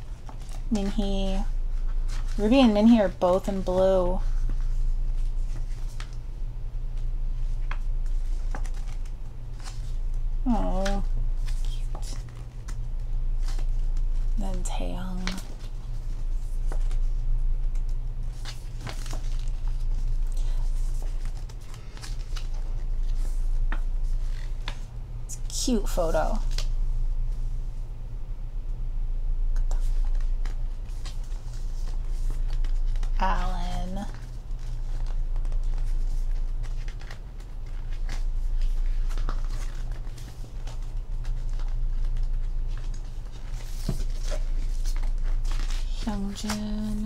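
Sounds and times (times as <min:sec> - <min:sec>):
paper pages rustling: 0:00.0 - 0:06.3, 0:07.0 - 0:24.9, 0:29.6 - 0:47.0
steady low hum: 0:00.0 - 0:47.0.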